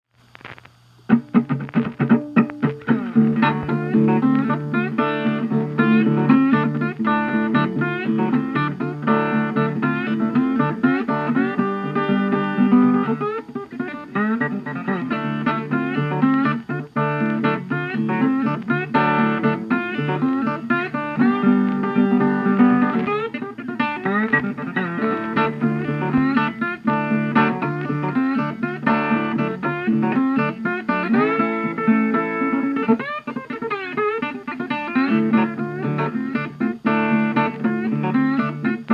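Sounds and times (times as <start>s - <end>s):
plucked guitar with sliding notes: 0.3s - 38.9s.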